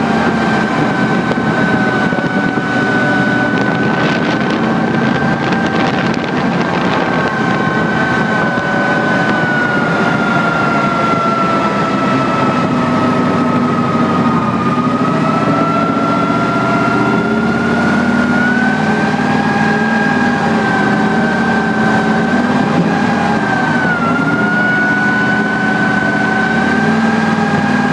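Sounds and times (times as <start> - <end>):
high rising whine: 0.0 - 27.9
tracked vehicle diesel and running gear: 0.0 - 27.9.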